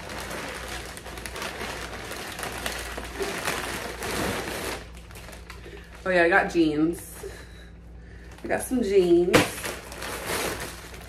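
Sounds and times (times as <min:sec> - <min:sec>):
plastic bag rustling and crinkling: 0:00.0 - 0:07.4, 0:08.2 - 0:11.0.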